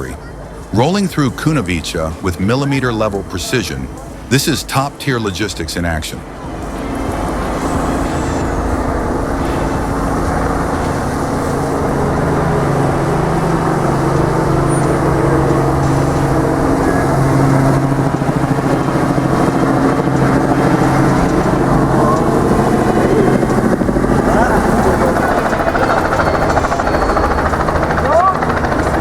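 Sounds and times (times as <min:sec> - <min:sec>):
road and traffic noise: 0:00.0 - 0:29.0.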